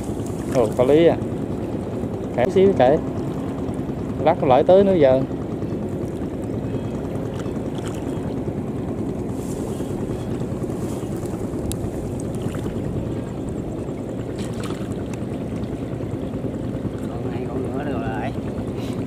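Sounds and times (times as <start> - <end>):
motor running: 0.0 - 19.0.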